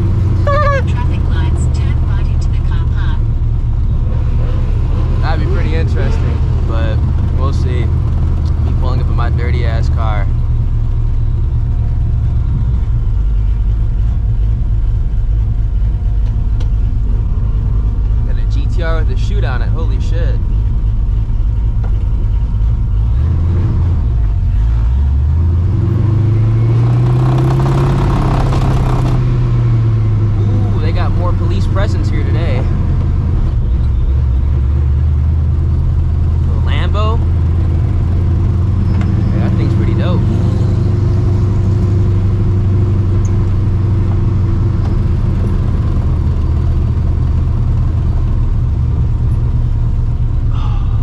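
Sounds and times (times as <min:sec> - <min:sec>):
car engine rumbling and revving: 0:00.0 - 0:51.0.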